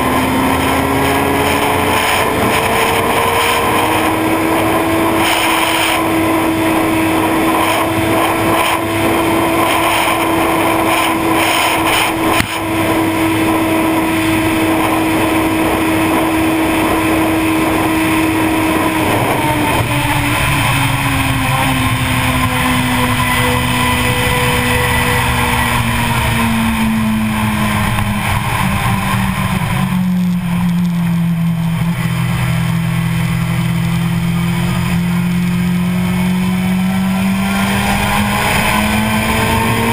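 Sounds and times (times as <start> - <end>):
motorcycle engine high note: 0.0 - 39.9
wind rush: 0.0 - 39.9.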